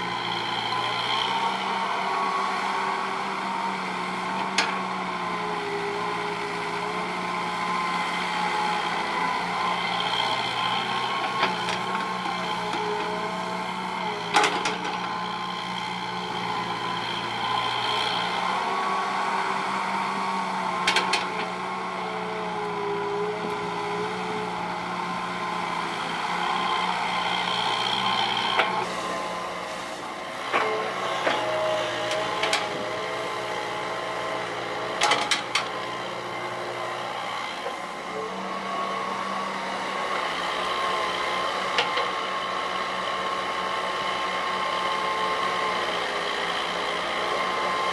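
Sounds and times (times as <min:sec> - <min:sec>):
excavator diesel engine working: 0:00.0 - 0:47.9.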